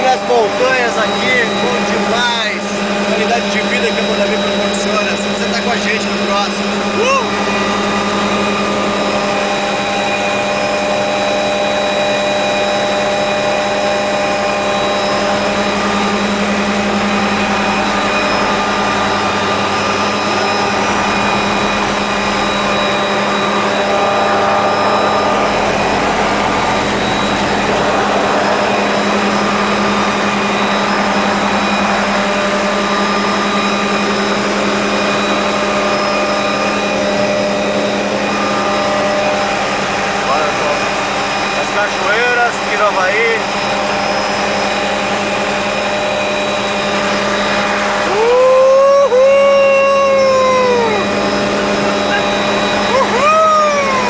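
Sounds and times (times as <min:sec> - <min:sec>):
helicopter drone from on board: 0:00.0 - 0:54.0.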